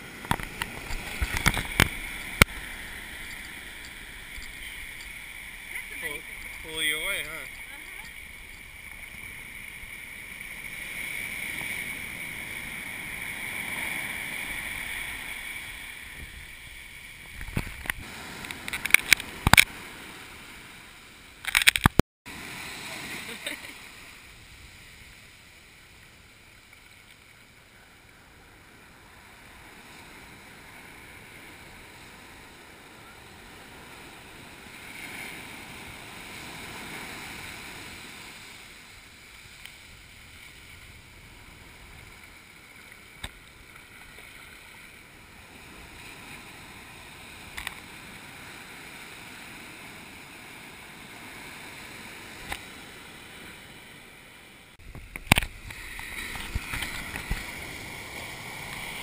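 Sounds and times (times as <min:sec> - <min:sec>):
surf washing over sand: 0:00.0 - 0:59.0.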